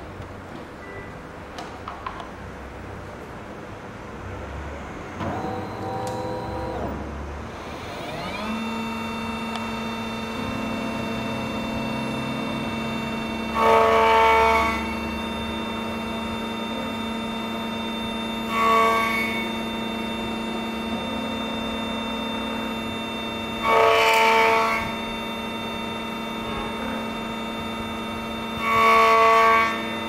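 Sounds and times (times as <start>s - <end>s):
high-pitched machine whine: 4.2s - 30.0s
key cutting machine motor hum: 5.1s - 30.0s.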